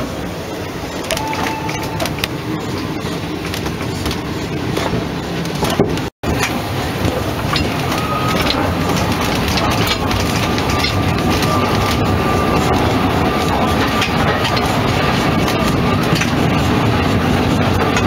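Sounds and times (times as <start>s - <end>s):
train rattling over track: 0.0s - 18.0s.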